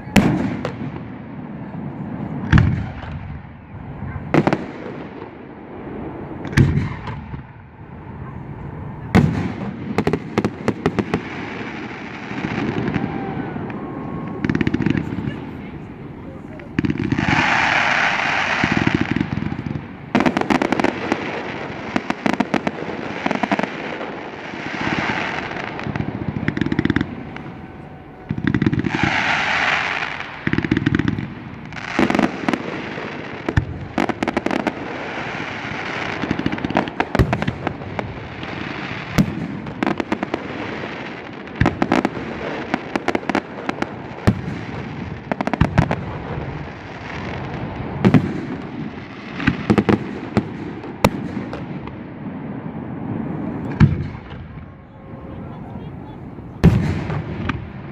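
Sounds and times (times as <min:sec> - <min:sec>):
firework cracks: 0:00.0 - 0:03.6, 0:04.3 - 0:55.3, 0:56.2 - 0:57.9
firework shells booming: 0:00.1 - 0:03.6, 0:04.3 - 0:07.8, 0:09.0 - 0:54.8, 0:56.2 - 0:57.9.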